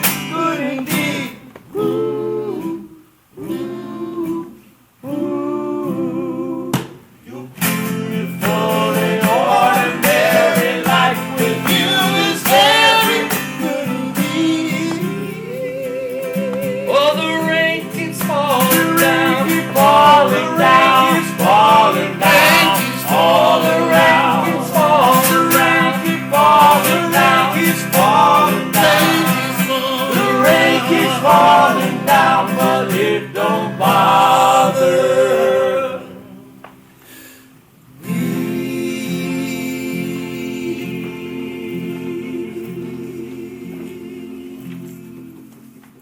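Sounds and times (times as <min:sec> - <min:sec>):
person singing with vibrato: 0:00.0 - 0:36.6, 0:37.9 - 0:45.6
guitar accompaniment: 0:00.0 - 0:37.3, 0:38.0 - 0:46.0.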